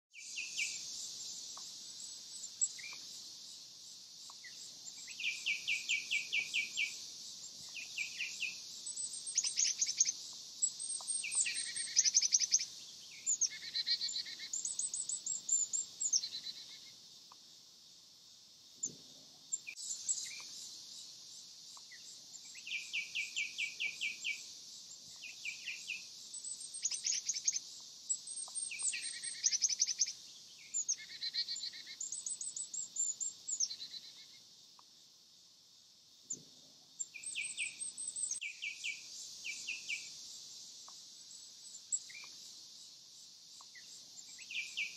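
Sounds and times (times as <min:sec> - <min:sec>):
songbirds singing: 0:00.1 - 0:35.2, 0:36.0 - 0:44.9
steady high hiss: 0:00.1 - 0:44.9.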